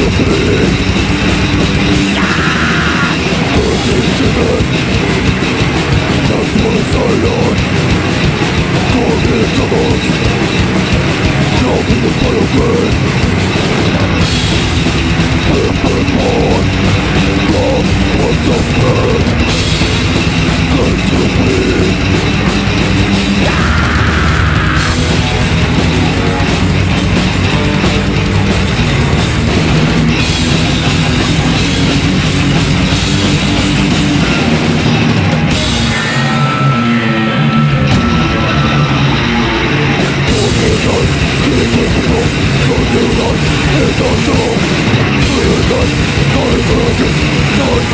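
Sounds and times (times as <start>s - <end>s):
bass guitar: 0.0s - 47.9s
distorted guitars: 0.0s - 47.9s
drum kit: 0.0s - 47.9s.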